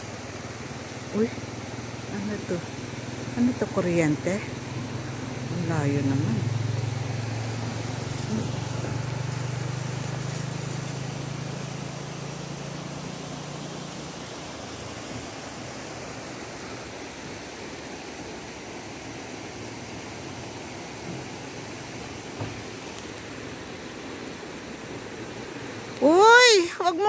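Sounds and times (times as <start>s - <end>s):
constant rushing noise: 0.0s - 27.0s
low engine hum: 0.0s - 27.0s.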